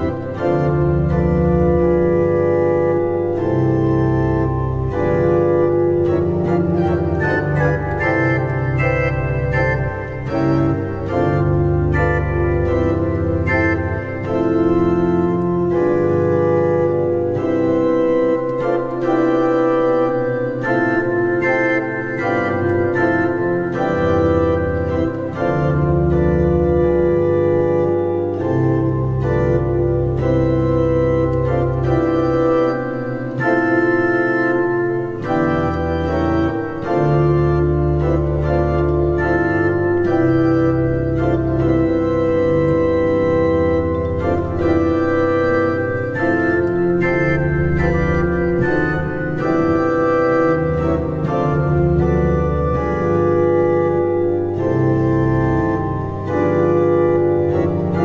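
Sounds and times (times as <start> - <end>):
electronic organ chords: 0.0 - 58.0.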